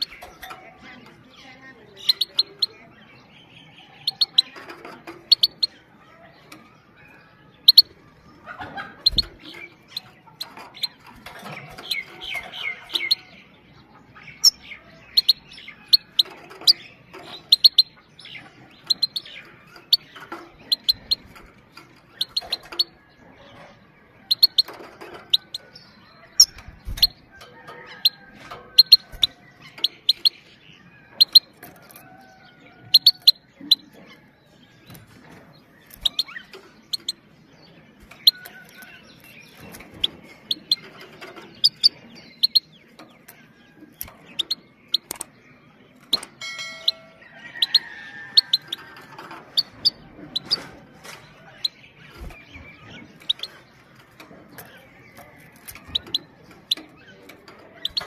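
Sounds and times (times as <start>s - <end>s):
bird twittering: 0.0s - 32.2s, 32.8s - 34.3s, 35.6s - 58.0s
bird sharp pit calls: 3.9s - 34.3s, 35.1s - 58.0s.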